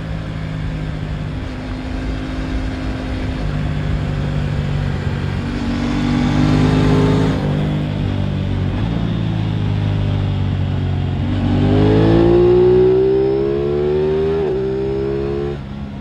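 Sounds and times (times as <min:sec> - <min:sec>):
motorcycle engine under way: 0:00.0 - 0:16.0.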